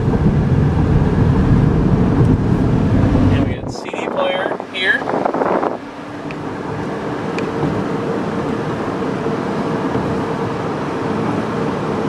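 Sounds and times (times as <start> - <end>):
low engine drone: 0.0 - 12.0
tyre and road noise: 0.0 - 12.0.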